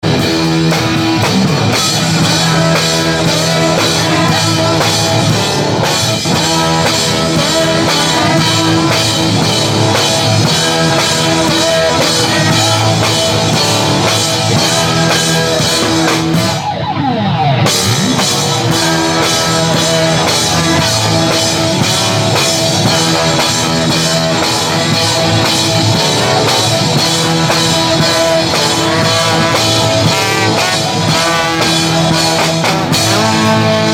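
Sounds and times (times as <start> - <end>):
drum kit beat: 0.0 - 33.9
electric guitar: 0.0 - 33.9.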